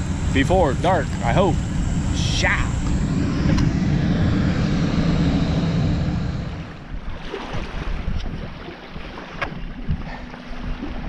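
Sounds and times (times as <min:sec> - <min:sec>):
towboat engine rumble: 0:00.0 - 0:11.0
water noise: 0:00.0 - 0:11.0
wind: 0:00.0 - 0:11.0.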